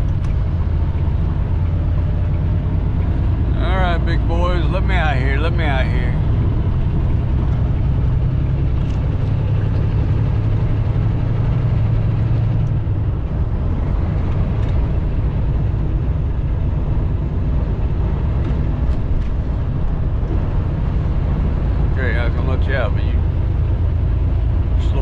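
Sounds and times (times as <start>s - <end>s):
truck engine hum: 0.0s - 25.0s
tyre and road rumble: 0.0s - 25.0s.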